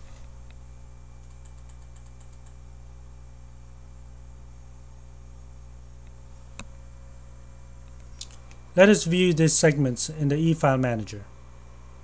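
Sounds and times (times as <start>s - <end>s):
low electrical hum with hiss: 0.0s - 12.0s.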